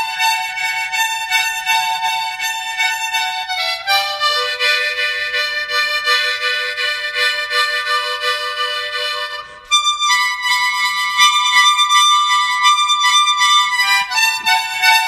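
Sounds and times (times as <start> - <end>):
harmonica long held notes: 0.0 - 15.0.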